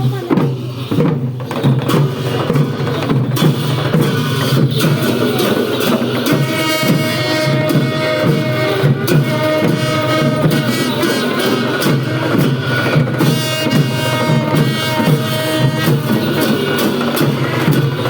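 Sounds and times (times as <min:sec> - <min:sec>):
cymbals clashing: 0:00.0 - 0:18.0
drums beating: 0:00.0 - 0:18.0
held melody notes: 0:02.2 - 0:18.0.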